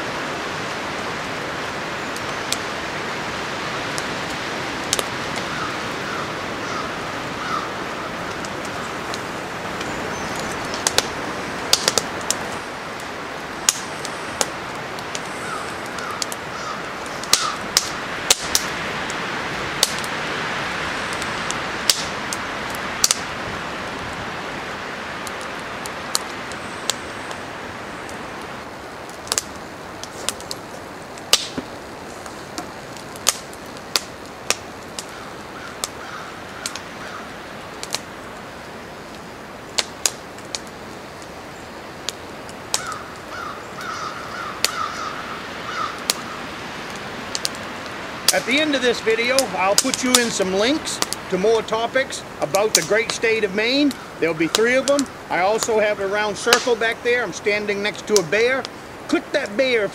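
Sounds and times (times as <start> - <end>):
wind through treetops: 0.0 - 59.9
sharp cracks and ticks: 2.1 - 2.7, 3.9 - 5.6, 8.2 - 20.2, 21.1 - 23.4, 25.2 - 27.4, 28.0 - 38.3, 39.0 - 41.4, 42.0 - 45.1, 45.7 - 59.9.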